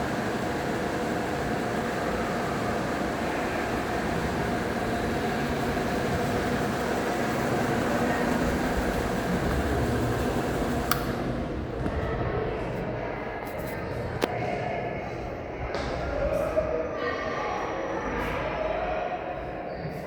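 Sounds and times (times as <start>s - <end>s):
ceiling fan running: 0.0s - 19.7s
motor hum with whine: 0.0s - 20.0s.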